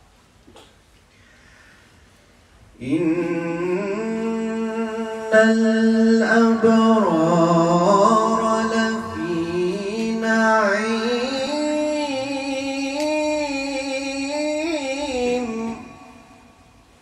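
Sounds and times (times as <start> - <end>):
man reciting melodically: 2.8 - 16.8.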